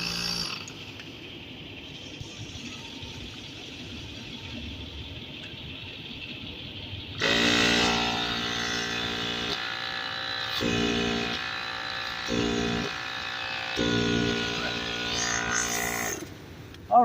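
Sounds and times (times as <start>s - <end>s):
electric compressor motor buzzing: 0.0s - 4.6s, 5.6s - 16.3s.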